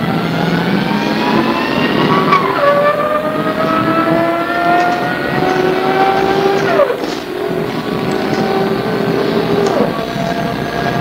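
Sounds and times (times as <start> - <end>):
bus engine accelerating: 0.0 - 11.0
gearbox shifting up: 0.0 - 11.0.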